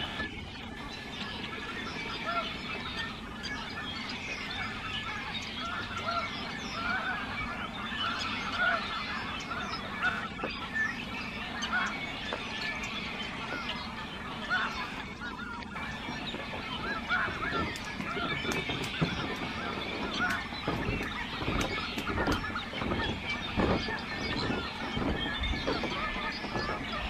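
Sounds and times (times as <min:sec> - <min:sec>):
geese honking: 0:00.0 - 0:27.0.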